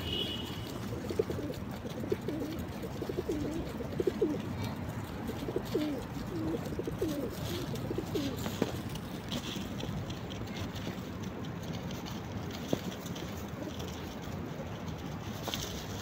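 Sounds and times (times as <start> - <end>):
pigeons cooing: 0.0 - 10.9, 11.7 - 16.0
steady background noise: 0.0 - 16.0.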